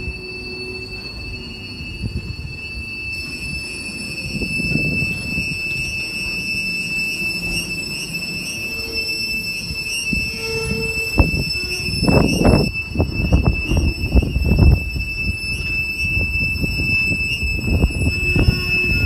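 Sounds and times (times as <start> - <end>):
high-pitched wheel squeal: 0.0 - 19.0
train wagons rolling: 0.0 - 19.0
wind buffeting microphone: 0.9 - 8.0, 8.7 - 19.0.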